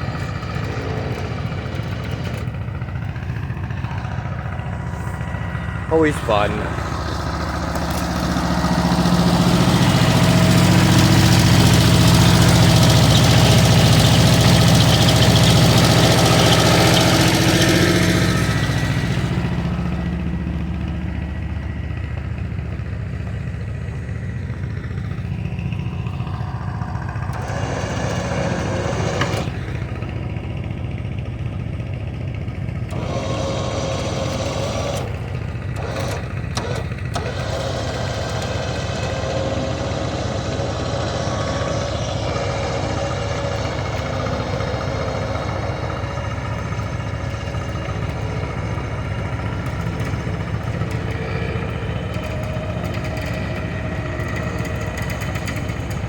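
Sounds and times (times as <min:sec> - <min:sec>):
engine running hard: 0:00.0 - 0:56.0.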